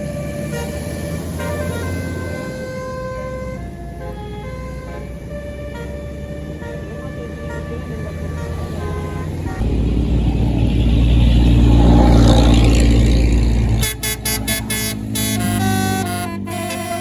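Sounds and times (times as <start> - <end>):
bus engine rumble and road noise: 0.0 - 17.0
multi-tone air horn toots: 0.0 - 17.0.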